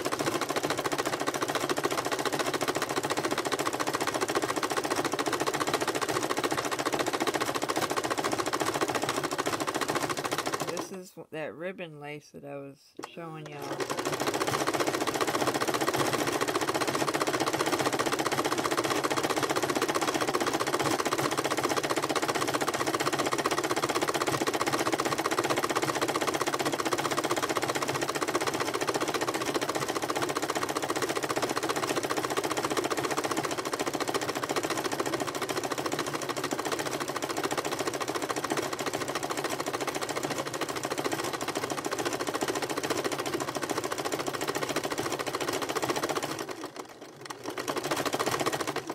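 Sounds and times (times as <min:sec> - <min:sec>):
electric sewing machine stitching: 0:00.0 - 0:11.0, 0:13.0 - 0:48.9.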